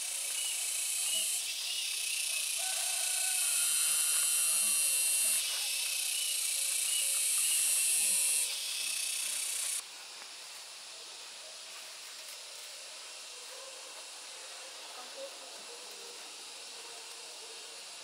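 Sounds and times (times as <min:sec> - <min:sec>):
high-pitched outdoor hiss: 0:00.0 - 0:18.0.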